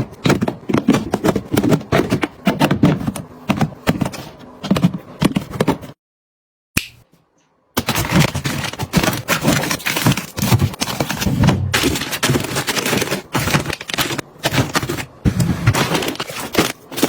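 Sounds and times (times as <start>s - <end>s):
handling small items and packaging: 0.0s - 6.0s, 7.8s - 17.0s.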